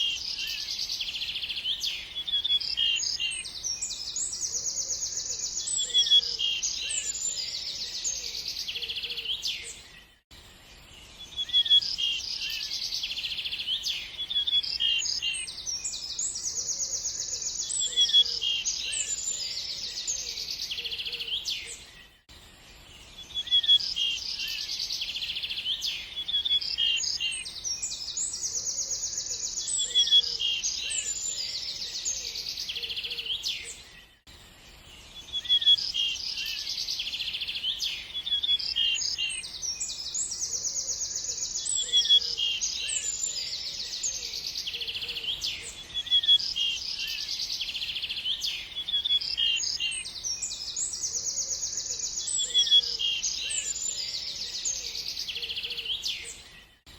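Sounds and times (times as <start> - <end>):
small songbirds chirping: 0.0 - 56.9.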